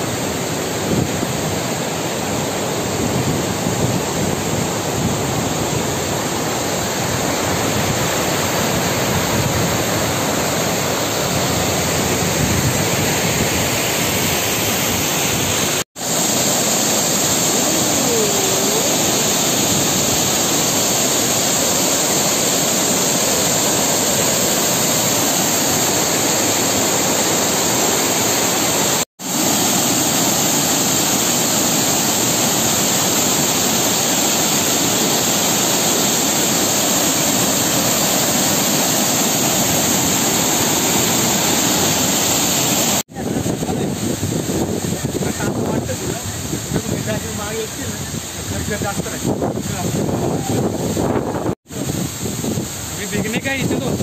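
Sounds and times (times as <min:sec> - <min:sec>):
rush of falling water: 0:00.0 - 0:54.0.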